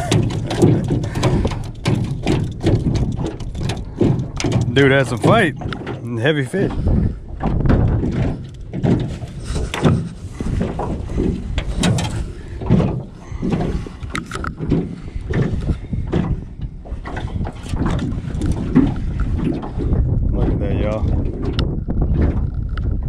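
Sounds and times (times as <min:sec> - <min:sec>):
knocks and rattles in metal boat: 0:00.0 - 0:23.0
wind rumbling on microphone: 0:00.0 - 0:23.0.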